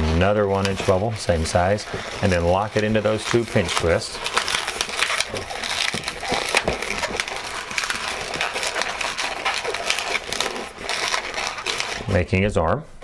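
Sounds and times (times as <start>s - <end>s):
balloons being twisted and rubbed: 0.0s - 12.5s.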